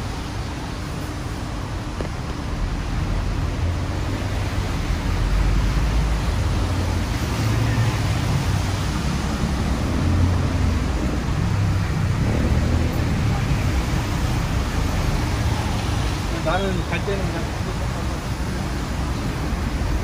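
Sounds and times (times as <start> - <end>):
tyres hissing on wet road: 0.0 - 20.0
vehicle engines rumbling: 0.0 - 20.0.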